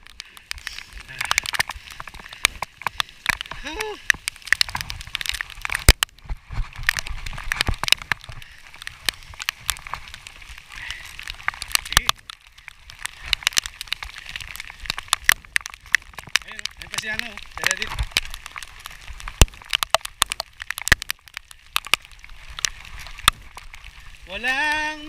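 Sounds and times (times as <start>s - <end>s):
heavy rain hiss: 0.0s - 5.8s, 6.4s - 19.9s, 22.4s - 25.0s
raindrops ticking near microphone: 0.0s - 25.0s.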